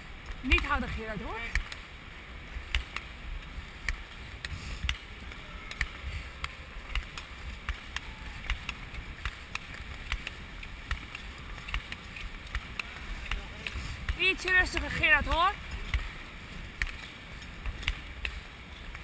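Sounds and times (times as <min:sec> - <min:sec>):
skate blades clicking on ice: 0:02.6 - 0:19.0.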